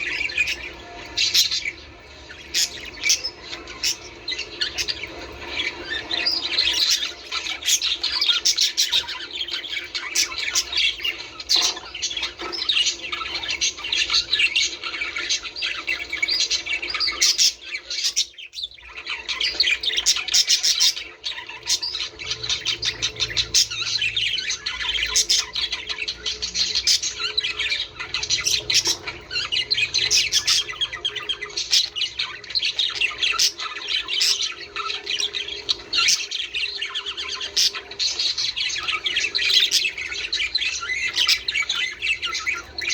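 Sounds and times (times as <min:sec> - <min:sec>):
budgerigars chattering and squawking: 0:00.0 - 0:42.9.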